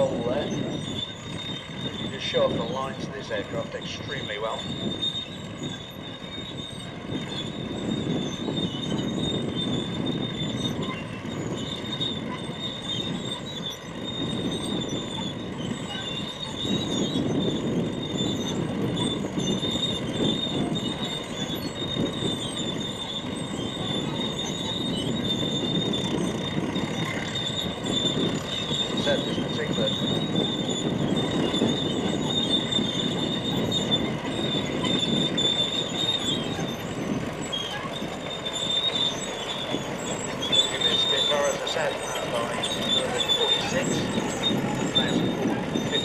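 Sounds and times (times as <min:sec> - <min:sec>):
aircraft engine running roughly: 0:00.0 - 0:46.0.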